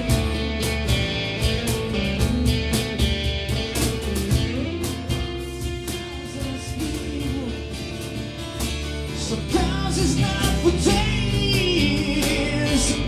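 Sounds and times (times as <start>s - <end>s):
acoustic rock band playing: 0.0s - 13.0s.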